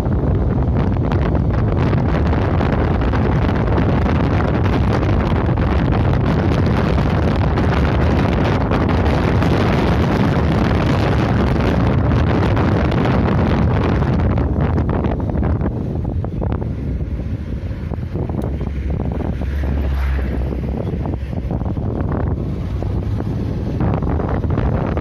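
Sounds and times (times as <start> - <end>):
low road rumble: 0.0 - 25.0
wind buffeting microphone: 0.0 - 25.0.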